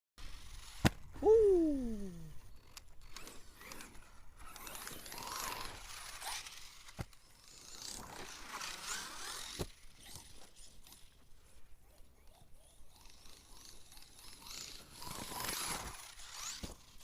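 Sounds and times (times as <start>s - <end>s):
crunchy gear noise: 2.3s - 11.2s, 12.0s - 17.0s.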